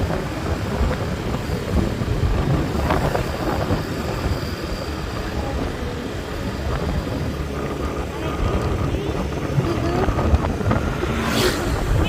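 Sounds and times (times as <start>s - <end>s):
steady low rumbling: 0.0s - 12.0s.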